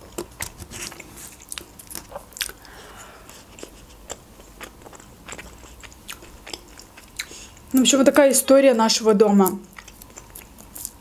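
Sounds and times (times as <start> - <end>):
person chewing food: 0.0 - 7.7, 9.6 - 11.0.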